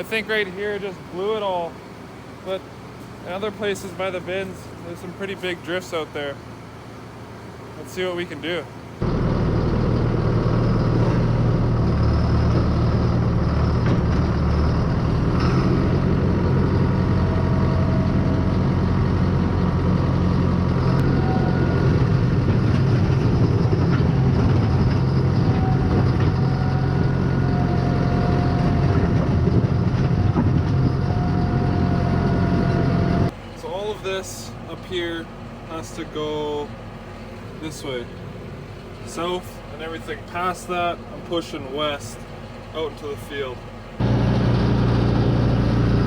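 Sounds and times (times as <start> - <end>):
diesel engine under load: 0.0 - 46.0
faint whine: 0.0 - 46.0.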